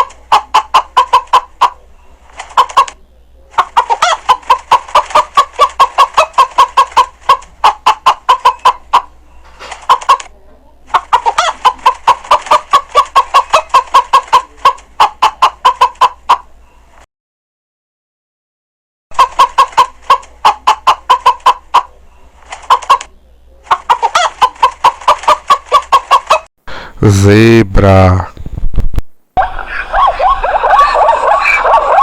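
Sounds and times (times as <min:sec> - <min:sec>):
hen clucking: 0:00.0 - 0:16.6, 0:19.1 - 0:28.5, 0:29.4 - 0:32.0.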